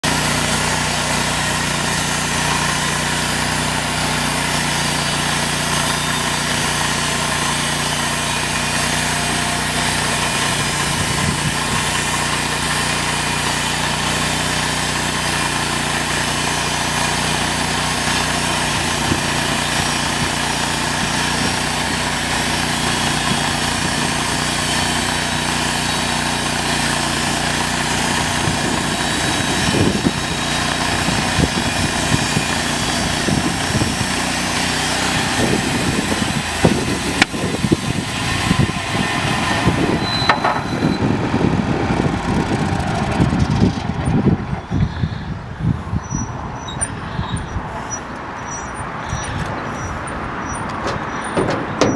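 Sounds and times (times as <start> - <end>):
sawmill engine humming steadily: 0.0 - 51.9.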